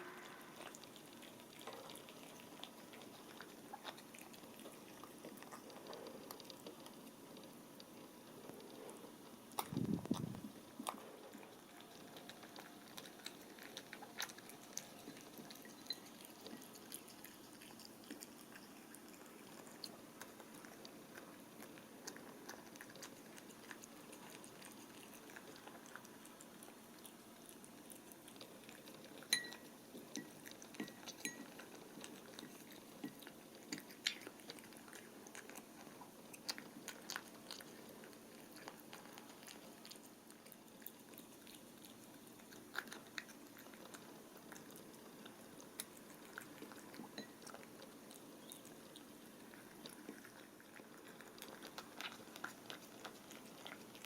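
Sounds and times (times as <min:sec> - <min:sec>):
cat lapping and chewing: 0:00.0 - 0:54.0.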